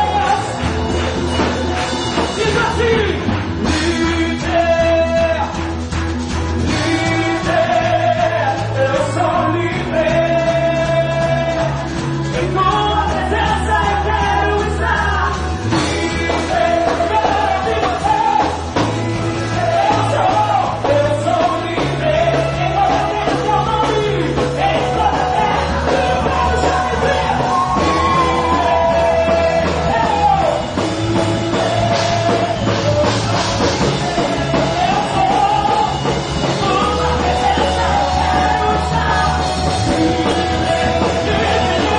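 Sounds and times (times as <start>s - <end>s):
person singing: 0.0s - 5.7s, 6.6s - 41.9s
rock band playing: 0.0s - 41.9s
steady bass line: 0.0s - 41.9s.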